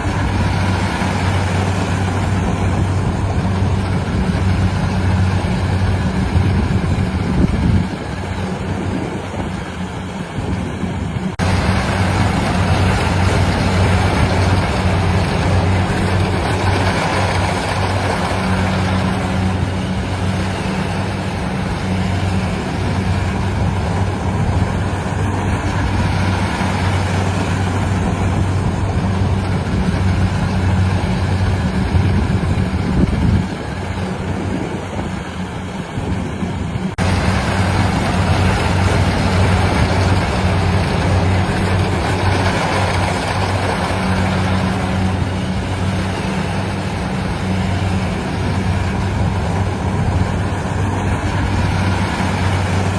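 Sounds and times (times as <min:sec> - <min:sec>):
harvester engine humming and clattering: 0:00.0 - 0:52.9.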